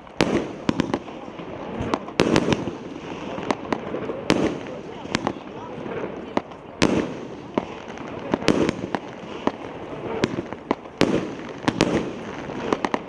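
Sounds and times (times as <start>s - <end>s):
firework shots bursting: 0.0s - 13.0s
fireworks crackling: 0.0s - 13.0s.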